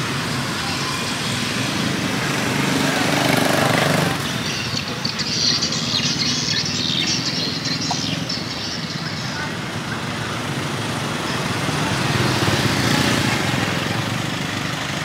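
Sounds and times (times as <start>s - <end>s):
indistinct voices: 0.0s - 12.3s
street traffic noise: 0.0s - 15.0s.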